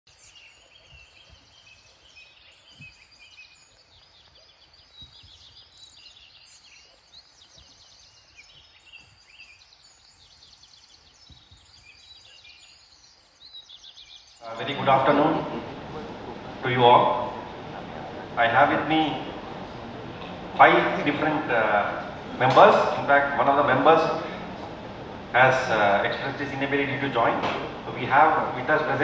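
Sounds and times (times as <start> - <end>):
many birds chirping: 0.1 - 29.0
low steady hiss: 1.8 - 29.0.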